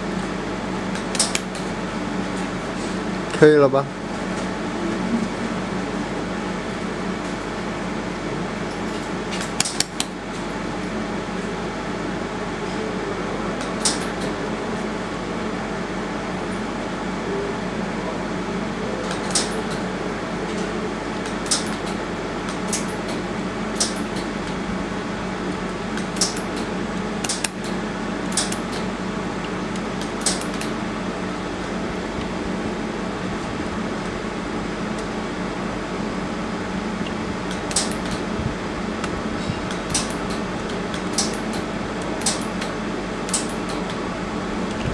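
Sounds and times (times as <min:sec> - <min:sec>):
cooling fan humming: 0:00.0 - 0:44.9.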